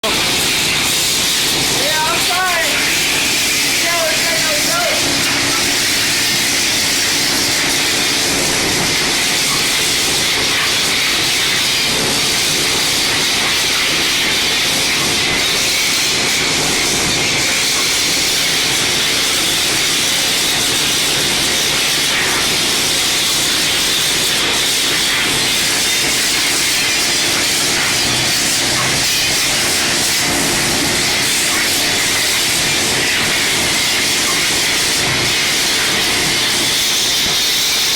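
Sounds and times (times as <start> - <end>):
water spraying against mixer: 0.0 - 37.9.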